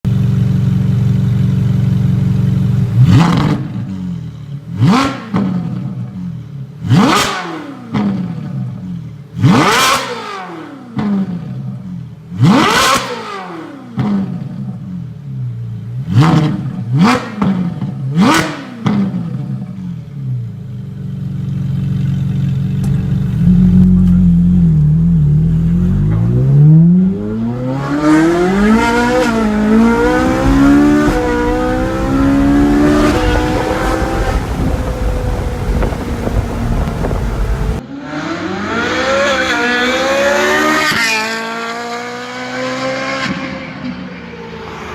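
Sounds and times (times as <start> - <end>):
sports car engine idling and revving: 0.1 - 44.9.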